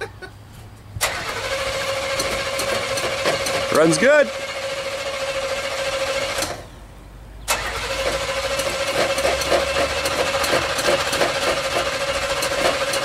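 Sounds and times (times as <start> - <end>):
starter motor cranking: 1.0 - 6.7, 7.5 - 13.0.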